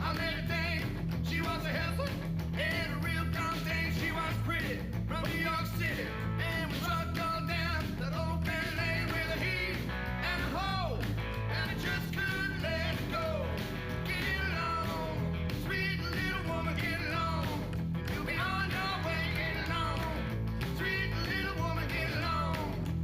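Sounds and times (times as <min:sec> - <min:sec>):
rock and roll band playing: 0:00.0 - 0:23.0.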